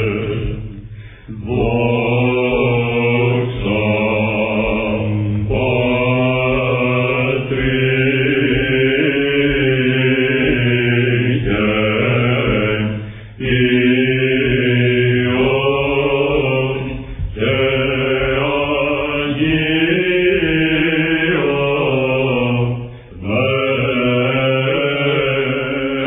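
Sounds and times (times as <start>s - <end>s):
low sung drone: 0.0s - 26.0s
men chanting ornamented melody: 0.0s - 26.0s.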